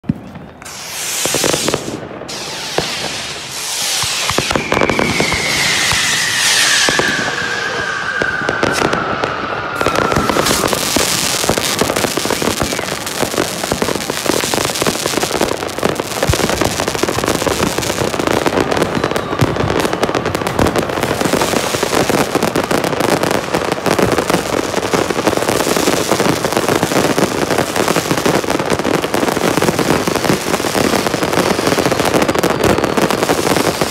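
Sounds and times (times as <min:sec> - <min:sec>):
fireworks crackling and banging: 0:00.0 - 0:33.9
falling firework whistle: 0:00.1 - 0:33.9
rockets whooshing up: 0:00.4 - 0:33.9.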